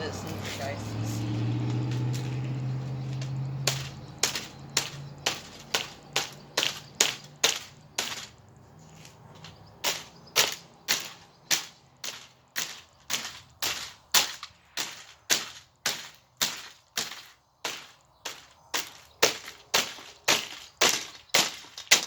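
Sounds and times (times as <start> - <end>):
blows smashing plastic fan: 1.6 - 8.4, 9.8 - 22.0.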